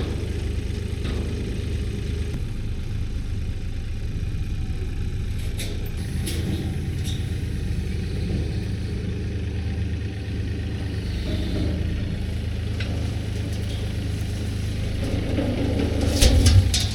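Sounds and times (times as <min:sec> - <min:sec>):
engine running at low speed: 0:00.0 - 0:16.9.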